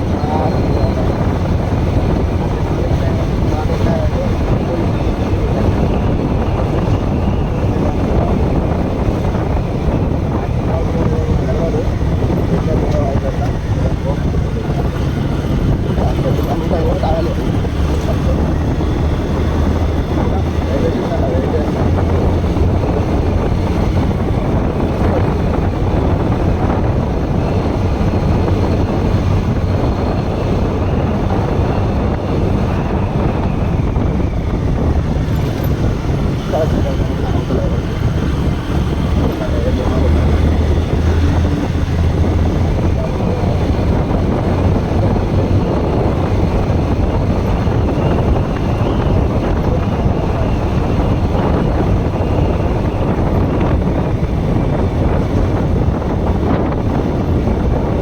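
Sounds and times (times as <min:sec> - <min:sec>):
motorcycle rumbling on road: 0:00.0 - 0:58.0
wind buffeting microphone: 0:00.0 - 0:58.0.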